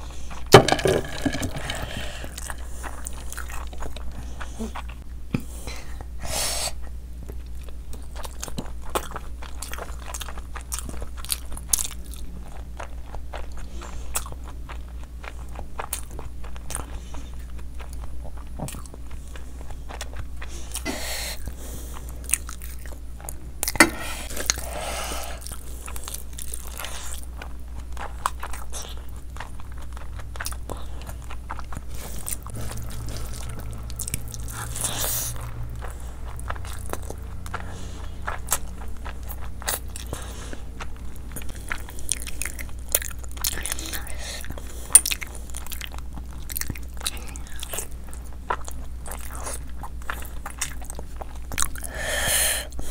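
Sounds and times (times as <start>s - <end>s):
wet chewing: 0.0s - 6.0s, 7.1s - 52.9s
steady low hum: 0.0s - 52.9s.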